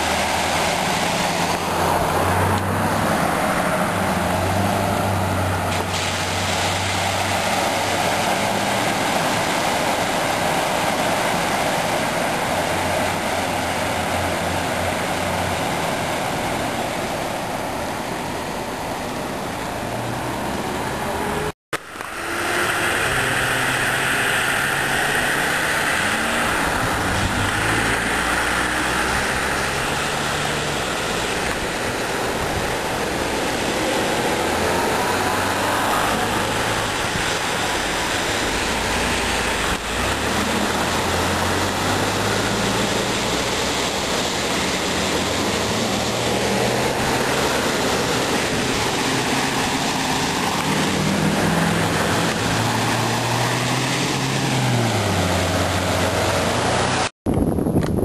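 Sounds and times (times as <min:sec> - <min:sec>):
loud steady rushing noise: 0:00.0 - 0:58.0.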